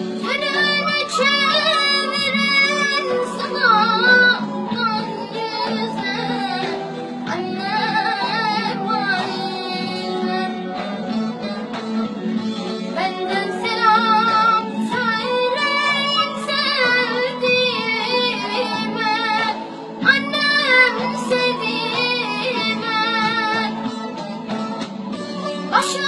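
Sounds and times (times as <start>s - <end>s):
woman singing with vibrato: 0.0s - 24.8s, 25.5s - 26.0s
instrumental backing: 0.0s - 26.0s.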